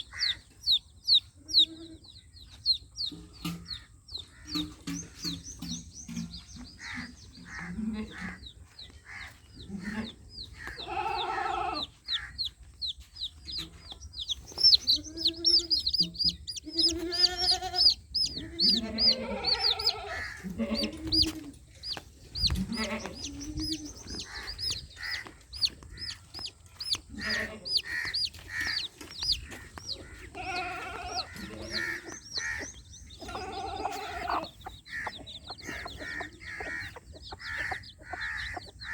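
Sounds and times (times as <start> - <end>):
baby chicks peeping: 0.0 - 38.9
hen clucking: 0.0 - 38.9.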